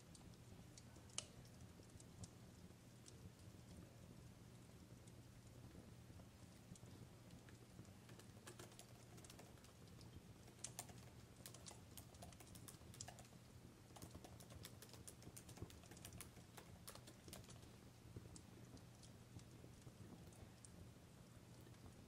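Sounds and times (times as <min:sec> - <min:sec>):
low steady hum: 0:00.0 - 0:22.0
wood fire crackling: 0:00.0 - 0:22.0.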